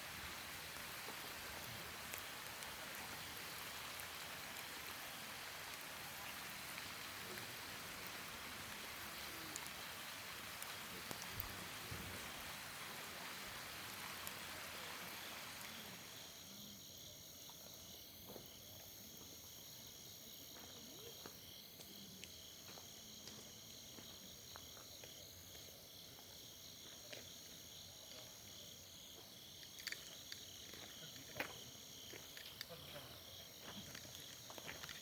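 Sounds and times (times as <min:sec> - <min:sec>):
insects trilling: 0:00.0 - 0:35.0
rain hiss: 0:00.0 - 0:35.0.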